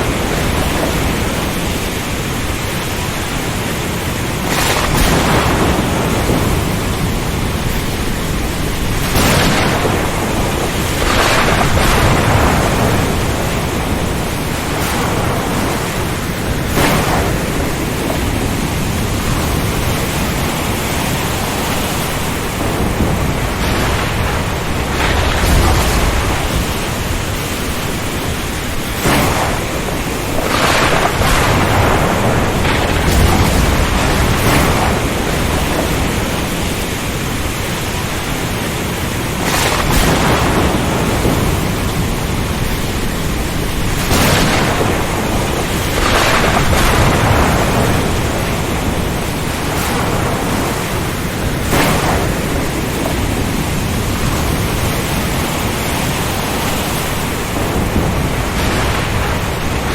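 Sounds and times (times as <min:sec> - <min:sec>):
surf: 0:00.0 - 0:59.9
wind-driven rain: 0:00.0 - 0:59.9.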